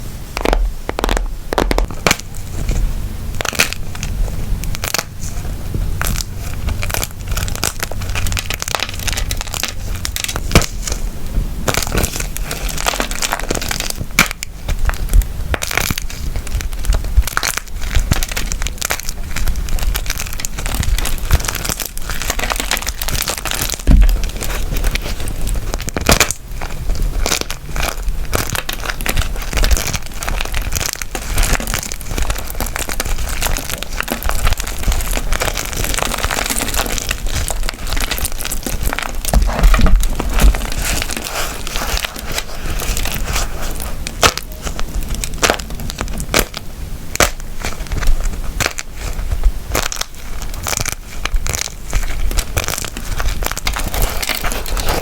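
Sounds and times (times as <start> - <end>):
wax crackling and crunching: 0.0 - 55.0.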